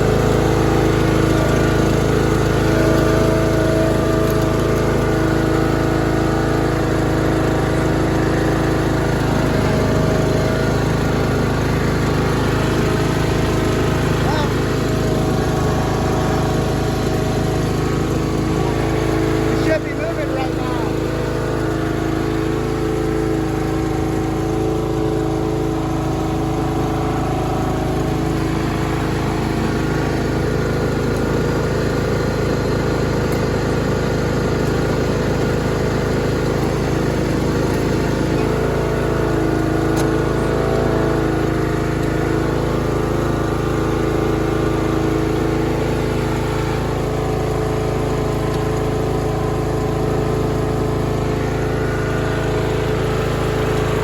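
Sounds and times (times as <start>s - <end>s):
lawn mower engine idling: 0.0s - 54.0s.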